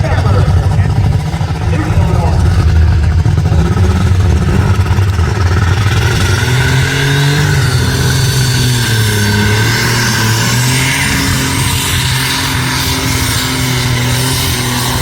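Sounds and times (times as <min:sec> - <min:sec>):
loud rough engine revving: 0:00.0 - 0:15.0.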